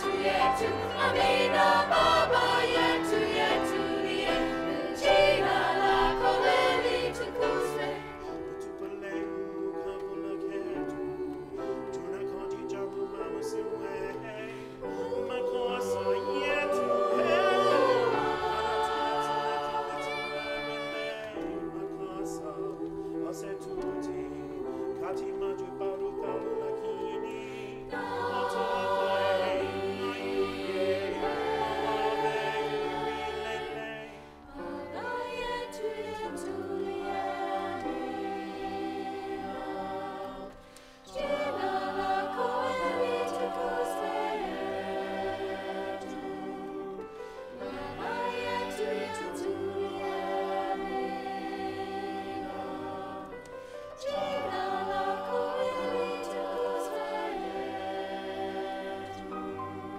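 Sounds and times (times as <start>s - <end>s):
choir singing sustained chords: 0.0s - 59.9s.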